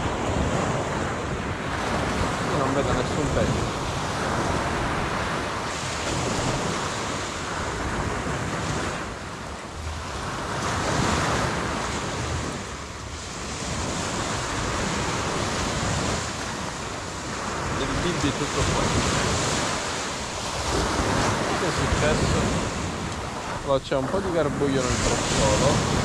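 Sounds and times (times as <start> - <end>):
sea surf washing onto beach: 0.0 - 26.0
wind buffeting microphone: 0.0 - 26.0.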